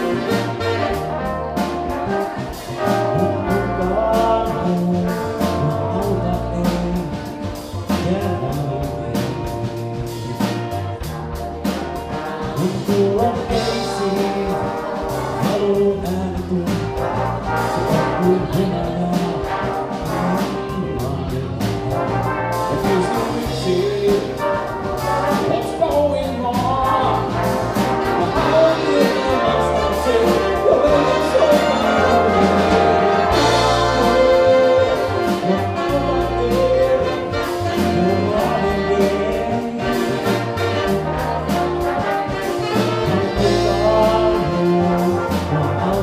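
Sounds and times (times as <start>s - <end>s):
big band playing live: 0.0s - 46.0s.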